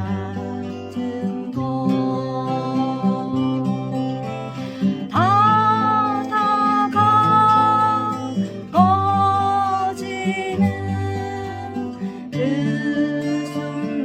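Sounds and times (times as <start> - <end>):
acoustic guitar strumming: 0.0 - 14.0
slow sliding lead melody: 0.0 - 14.0.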